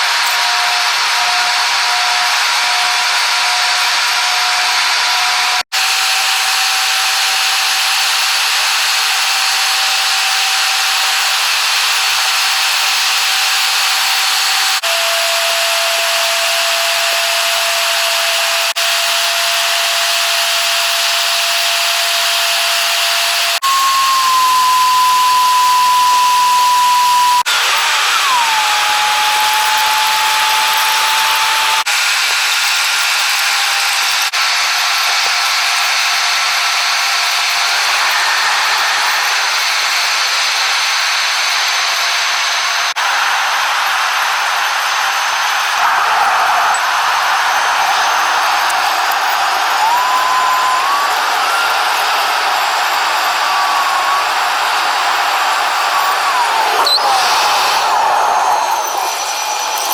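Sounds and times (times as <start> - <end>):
drill-like whine: 0.0 - 59.9.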